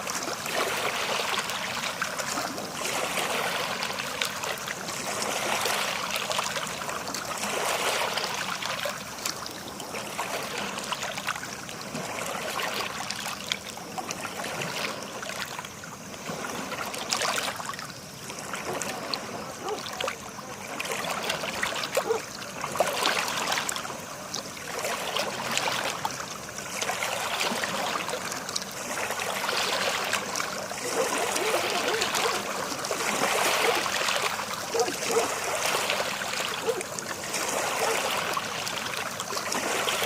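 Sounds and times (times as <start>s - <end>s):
sea water lapping: 0.0s - 40.0s
small water splashes and drips: 0.0s - 40.0s.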